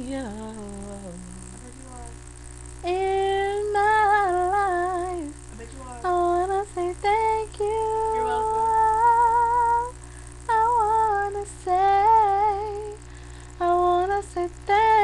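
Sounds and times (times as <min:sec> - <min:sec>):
woman singing unaccompanied: 0:00.0 - 0:02.2, 0:02.8 - 0:15.0.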